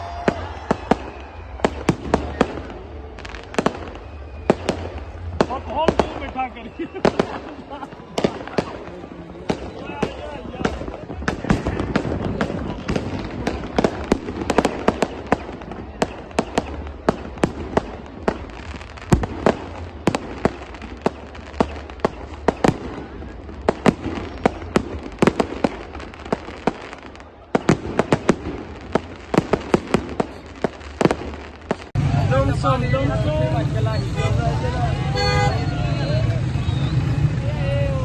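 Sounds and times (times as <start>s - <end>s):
crowd din: 0.0s - 38.0s
fireworks exploding: 0.0s - 38.0s.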